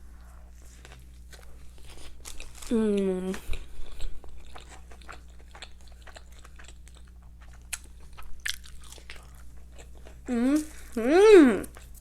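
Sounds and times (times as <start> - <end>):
person chewing food: 0.2 - 11.0.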